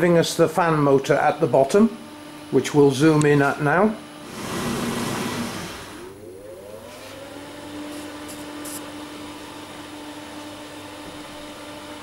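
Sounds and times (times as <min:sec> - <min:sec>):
dryer fan motor whining and humming: 0:00.0 - 0:12.0.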